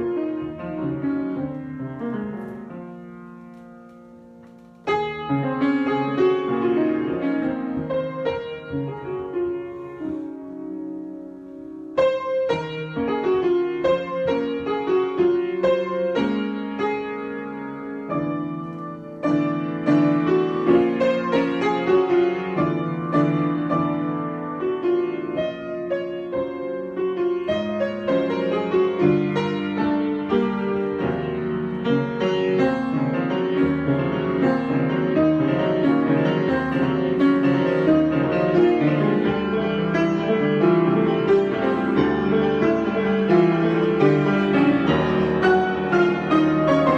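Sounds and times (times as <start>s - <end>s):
solo piano improvisation: 0.0s - 46.9s.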